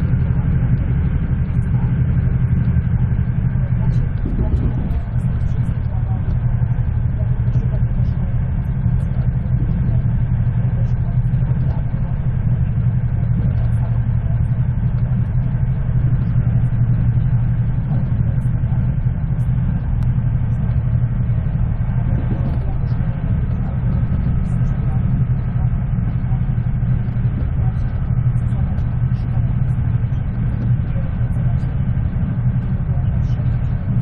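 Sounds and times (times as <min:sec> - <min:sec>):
train carriage running rumble: 0:00.0 - 0:34.0.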